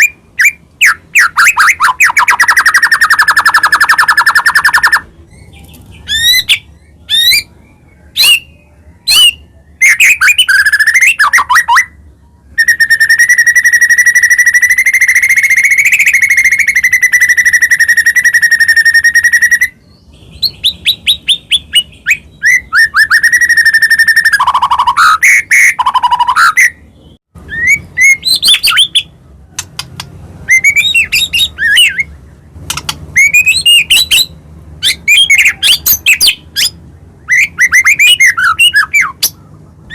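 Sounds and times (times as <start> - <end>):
bird singing whistled song: 0.0 - 39.9
bird trill: 0.0 - 39.9.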